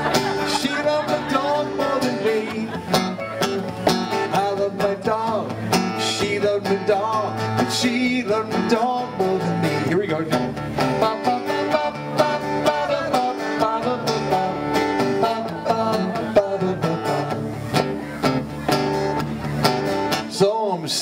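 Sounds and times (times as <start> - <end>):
acoustic guitar strummed: 0.0 - 21.0.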